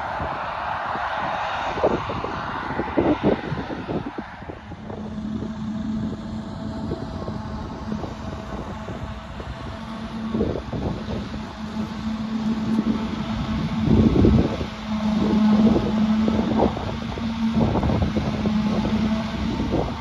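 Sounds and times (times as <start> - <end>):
harvester engine drone: 0.0 - 20.0
wind thumps on microphone: 0.0 - 20.0.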